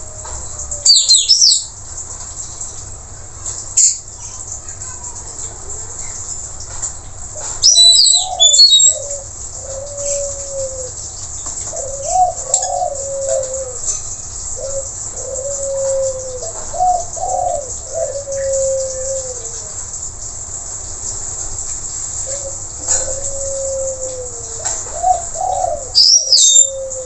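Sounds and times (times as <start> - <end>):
steady high hiss: 0.0 - 27.0.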